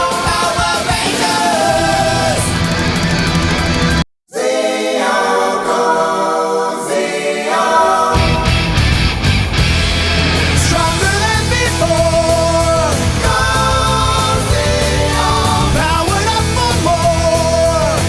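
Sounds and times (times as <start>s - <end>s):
music with sung vocals: 0.0s - 3.4s, 4.4s - 18.0s.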